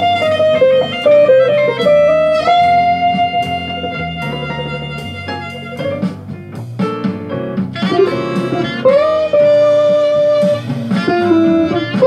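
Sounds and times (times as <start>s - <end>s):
electric guitar playing jazz: 0.0s - 12.0s.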